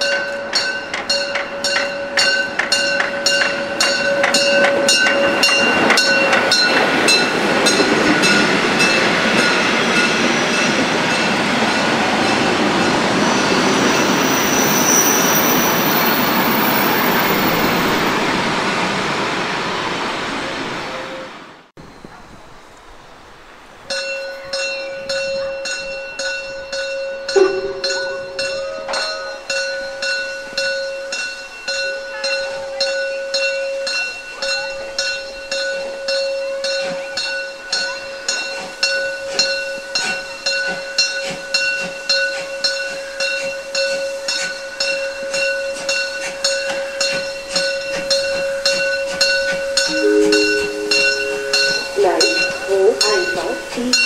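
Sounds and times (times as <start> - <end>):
steam locomotive whine and beat: 0.0 - 21.7, 27.2 - 31.6, 36.6 - 54.0
train coaches rolling over tracks: 0.0 - 22.3, 23.1 - 54.0.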